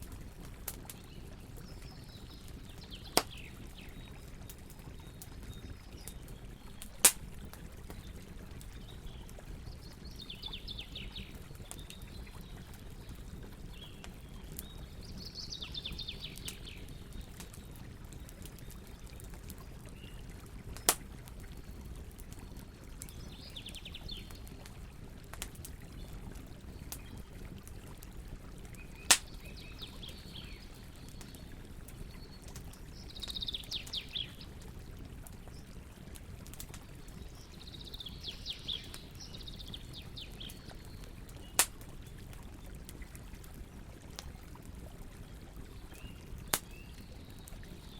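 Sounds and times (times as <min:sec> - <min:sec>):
fire popping: 0:00.0 - 0:10.2, 0:15.7 - 0:29.6, 0:30.2 - 0:44.6, 0:45.5 - 0:47.7
campfire crackling: 0:00.0 - 0:47.9.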